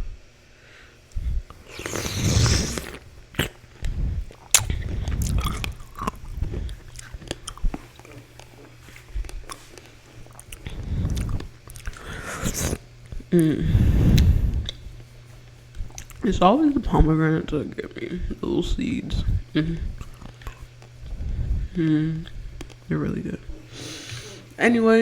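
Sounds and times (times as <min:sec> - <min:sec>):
chewing cereal: 0:01.1 - 0:24.6.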